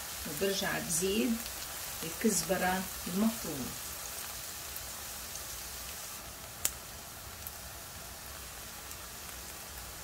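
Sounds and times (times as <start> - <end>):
onions sizzling in a frying pan: 0.0 - 10.0.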